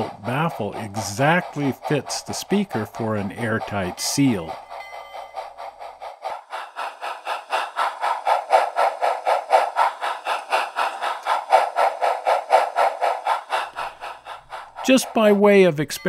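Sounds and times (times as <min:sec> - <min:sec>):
steam locomotive chuffing from speaker: 0:00.0 - 0:16.0.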